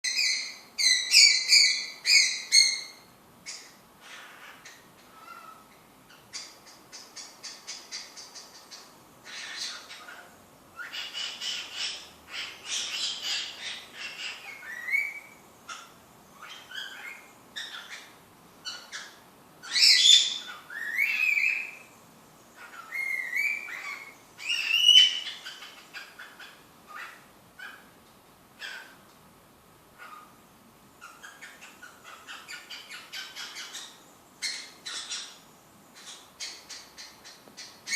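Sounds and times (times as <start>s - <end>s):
cockatiel chattering and whistling: 0.1s - 21.8s, 22.6s - 27.8s, 31.0s - 35.4s.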